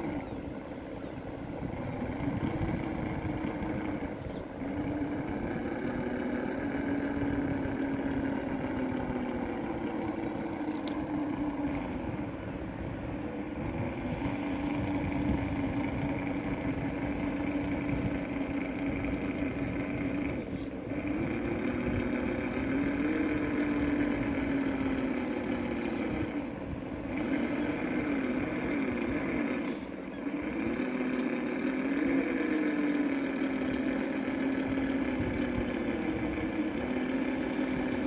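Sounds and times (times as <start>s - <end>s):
electric motor and gearbox whining: 0.0s - 38.0s.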